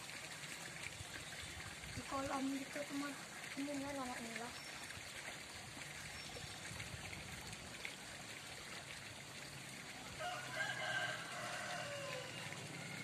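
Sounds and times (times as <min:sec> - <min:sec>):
trickle of running water: 0:00.0 - 0:13.0.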